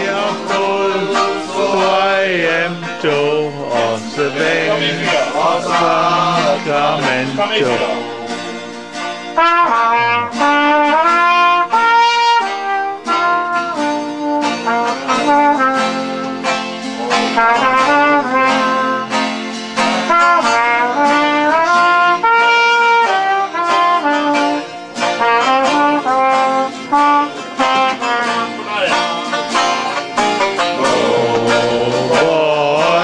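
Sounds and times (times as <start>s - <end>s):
trumpet playing jazz melody: 0.0s - 32.6s
strummed banjo chords: 0.0s - 33.0s.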